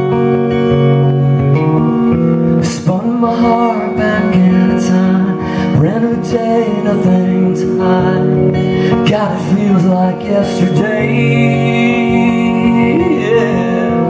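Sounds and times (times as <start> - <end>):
guitar chords ringing: 0.0 - 14.0
man singing: 2.6 - 14.0.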